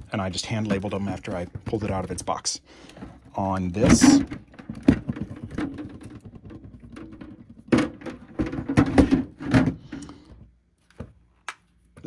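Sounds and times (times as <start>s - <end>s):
plastic knocks and clacks: 0.2s - 11.2s.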